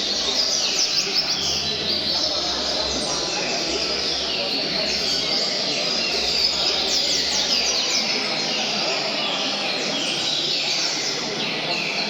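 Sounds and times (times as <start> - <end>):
birds singing chirped phrases: 0.0 - 12.0
murmur of people talking: 0.0 - 12.0.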